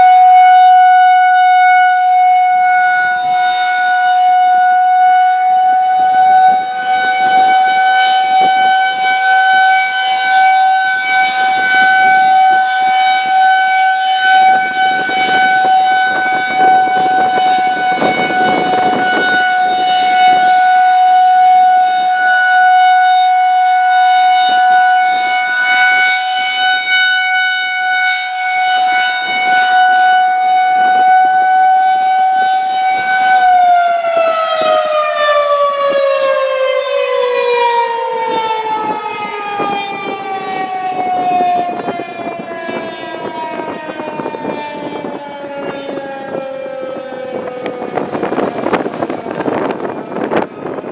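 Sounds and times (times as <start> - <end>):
wind buffeting microphone: 0.0 - 22.8, 23.6 - 50.9
rotating warning siren steady tone: 0.0 - 50.9.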